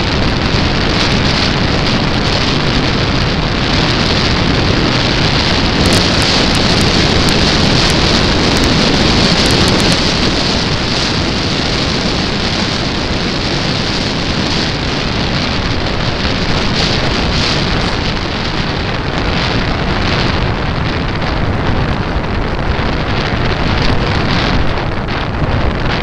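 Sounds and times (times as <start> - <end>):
airflow and propeller noise: 0.0 - 26.0.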